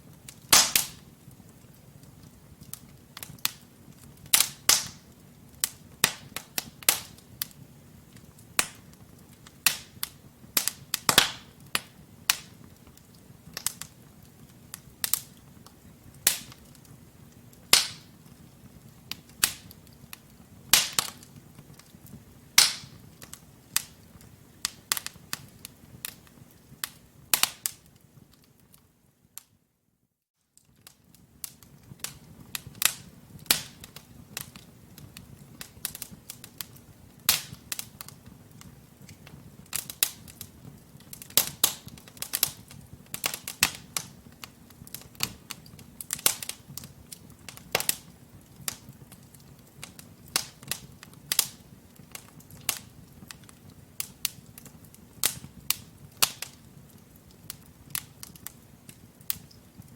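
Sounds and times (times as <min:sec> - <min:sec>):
wood fire crackling: 0:00.0 - 0:29.8, 0:30.4 - 0:59.9.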